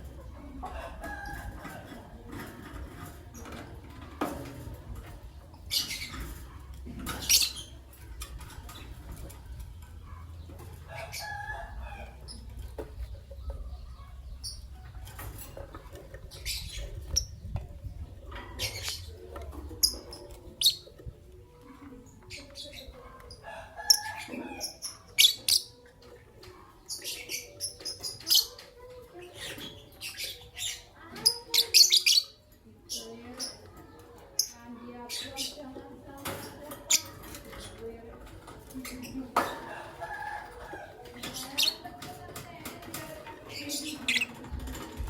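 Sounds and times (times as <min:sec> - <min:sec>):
birds chattering: 0:00.0 - 0:45.0.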